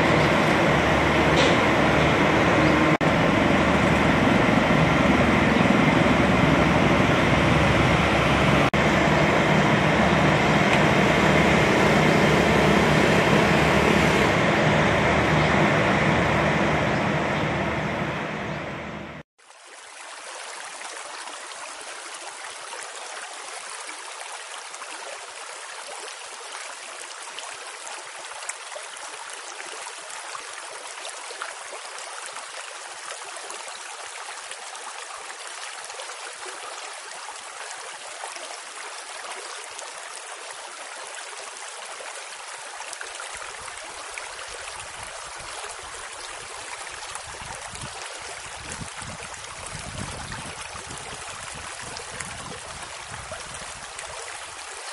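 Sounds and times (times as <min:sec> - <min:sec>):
flowing water rushing: 0:00.0 - 0:17.4, 0:19.4 - 0:54.9.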